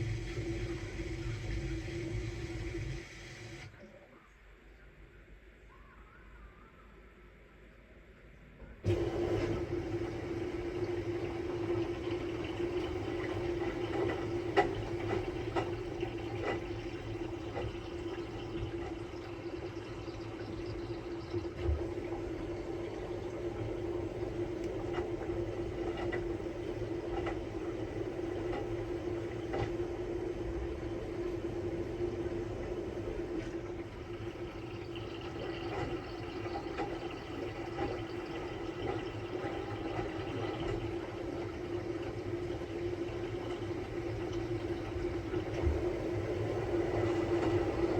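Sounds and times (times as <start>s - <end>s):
water noise: 0.0s - 3.8s, 8.9s - 47.9s
washing machine motor hum: 0.0s - 4.0s, 8.8s - 47.9s.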